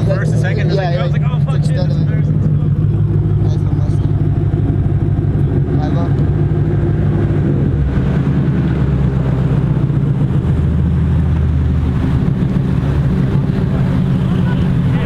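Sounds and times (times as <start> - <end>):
car engines idling: 0.0 - 15.0
deep drone: 0.0 - 15.0.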